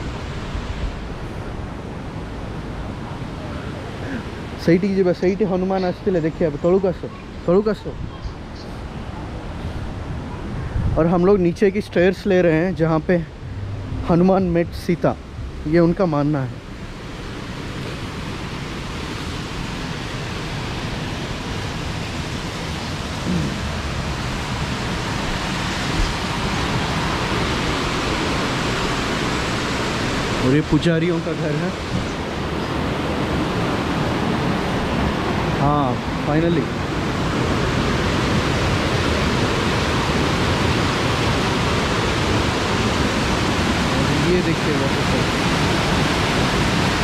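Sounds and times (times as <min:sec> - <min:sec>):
rush of flowing water: 0:00.0 - 0:47.0.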